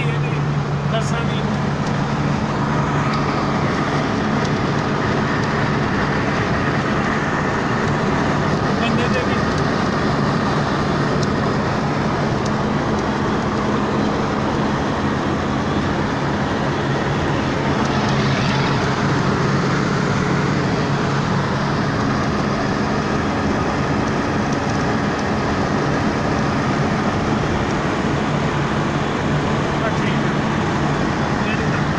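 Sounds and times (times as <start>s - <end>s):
moving vehicle rumble: 0.0s - 31.9s.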